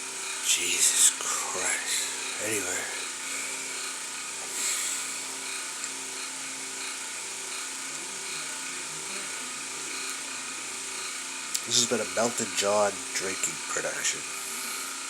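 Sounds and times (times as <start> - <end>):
electric motor whirring hum: 0.0 - 15.0.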